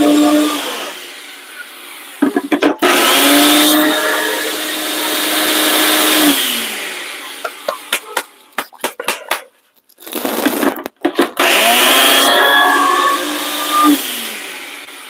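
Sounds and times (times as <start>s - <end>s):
blender motor grinding: 0.0s - 8.0s, 10.0s - 15.0s.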